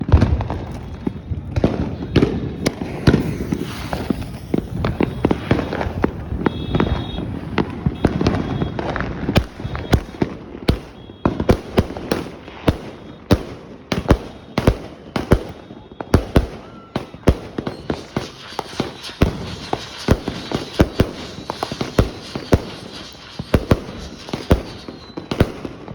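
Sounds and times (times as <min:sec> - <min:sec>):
firework cake firing shots: 0:00.0 - 0:25.9.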